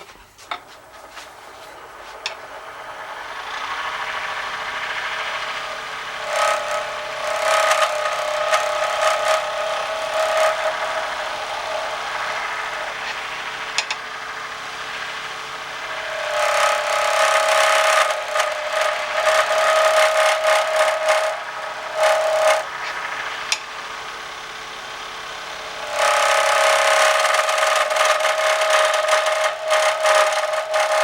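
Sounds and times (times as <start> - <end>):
turning tool scraping wood: 0.0 - 2.6, 3.4 - 14.1, 15.7 - 23.7, 25.6 - 31.0
high-pitched squealing: 0.0 - 31.0
wood lathe spinning: 0.0 - 31.0.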